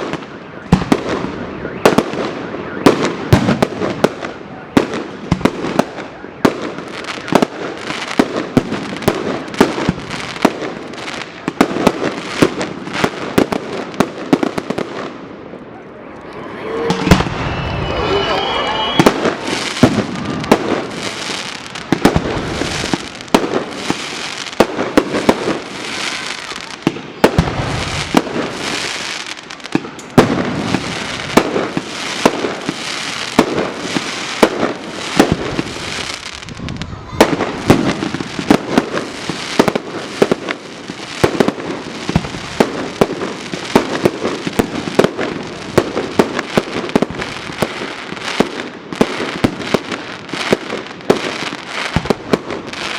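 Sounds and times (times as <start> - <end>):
fireworks bursting with sharp bangs: 0.0 - 52.9.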